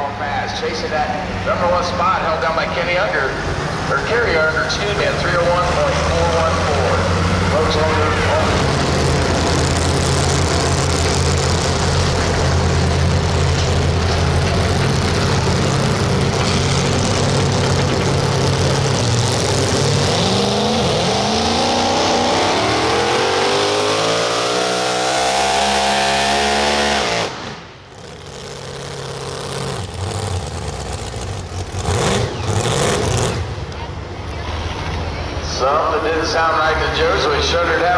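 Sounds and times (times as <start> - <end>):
truck engine running hard: 0.0 - 37.9.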